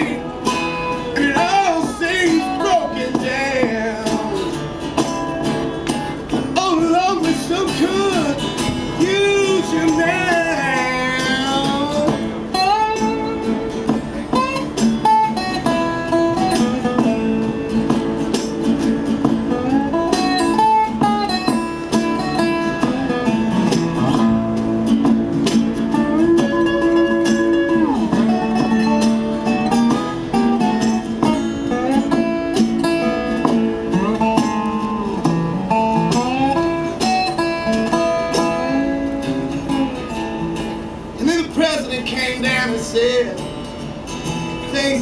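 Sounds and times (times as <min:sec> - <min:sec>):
sliding lead melody: 0:00.0 - 0:41.2
acoustic guitar playing: 0:00.0 - 0:45.0.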